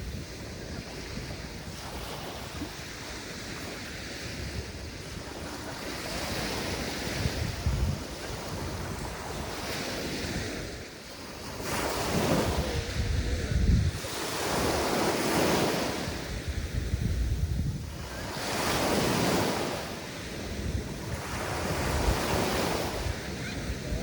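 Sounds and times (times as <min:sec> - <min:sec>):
sea waves breaking on beach: 0:00.0 - 0:24.0
wind rumbling on microphone: 0:00.0 - 0:24.0.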